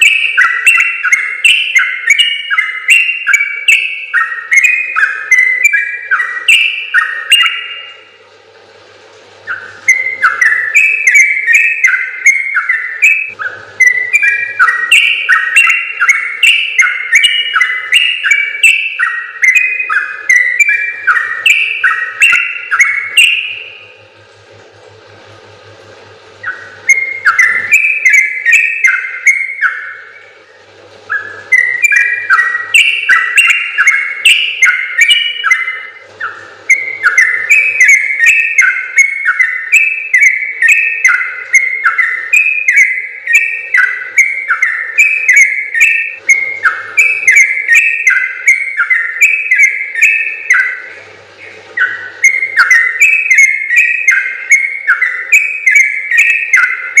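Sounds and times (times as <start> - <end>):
bird singing bubbling whistles: 0.0 - 8.2, 9.4 - 24.1, 26.3 - 57.0.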